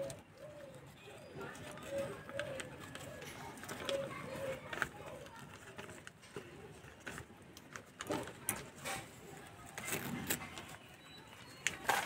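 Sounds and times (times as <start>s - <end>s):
newspaper crinkling: 0.8s - 12.0s.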